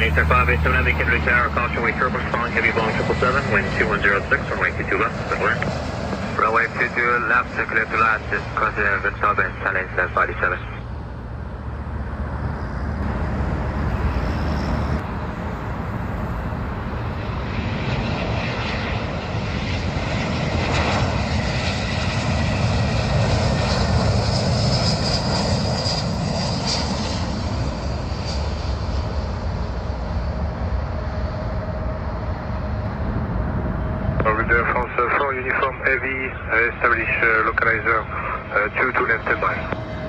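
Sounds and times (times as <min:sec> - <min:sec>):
high engine whine: 0:00.0 - 0:40.0
jet engines roaring: 0:00.0 - 0:40.0.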